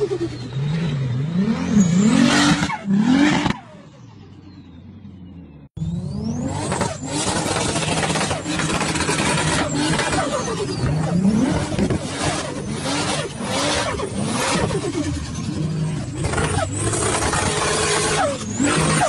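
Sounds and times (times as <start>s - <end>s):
engine revving hard: 0.0s - 3.9s, 5.8s - 19.0s.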